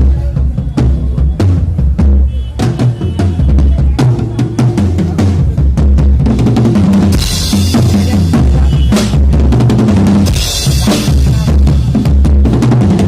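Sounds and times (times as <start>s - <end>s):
drum kit kick and snare: 0.0s - 13.0s
low bass notes: 0.0s - 13.0s.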